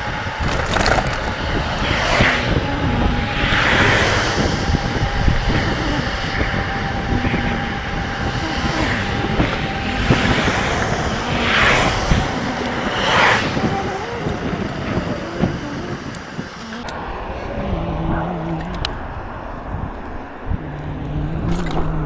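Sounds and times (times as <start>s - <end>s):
road noise: 0.0s - 22.0s
wind rumble on microphone: 0.0s - 22.0s
thin steady whine: 1.0s - 21.2s
swooshes: 1.4s - 22.0s.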